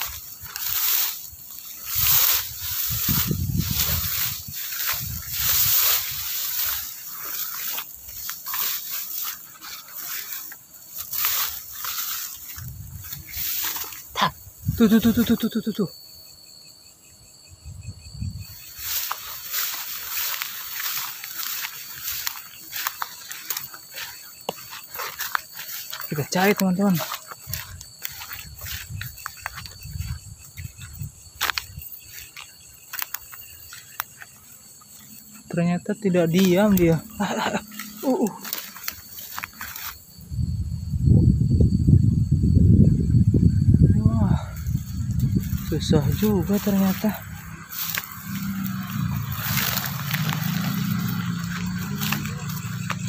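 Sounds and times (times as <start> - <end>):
tall grass rustling: 0.0 - 16.2, 18.0 - 53.0
night insects trilling: 0.0 - 53.0.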